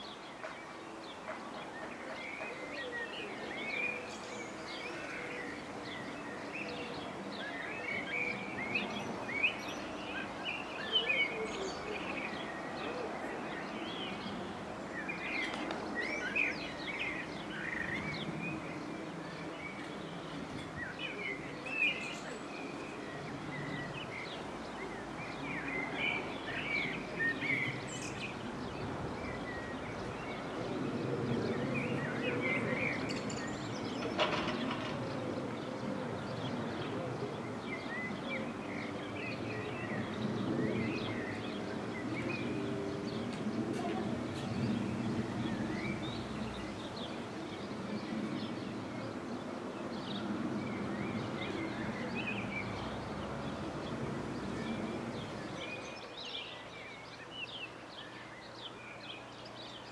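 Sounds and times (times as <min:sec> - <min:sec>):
low background noise: 0:00.0 - 0:59.9
small birds chirping and singing: 0:00.0 - 0:59.9.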